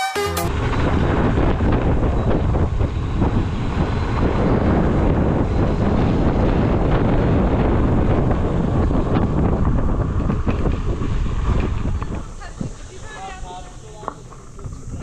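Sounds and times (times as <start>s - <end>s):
wind buffeting microphone: 0.5s - 15.0s.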